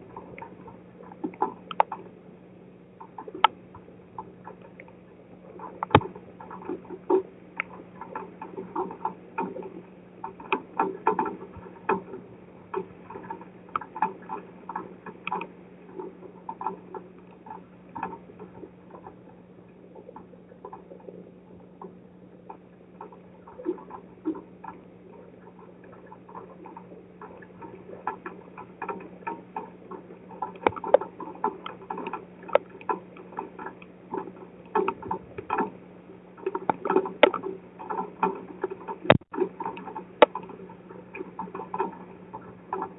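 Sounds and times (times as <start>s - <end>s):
low electrical hum: 0.0s - 42.9s
raindrops pattering on camera: 3.0s - 42.9s.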